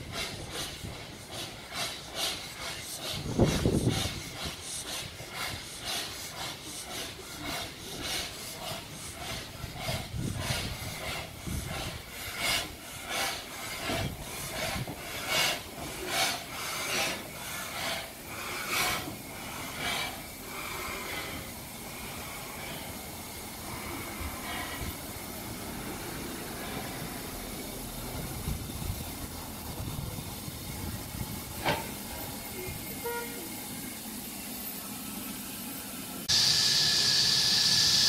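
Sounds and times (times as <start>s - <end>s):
steam locomotive chuffing: 0.0s - 38.0s.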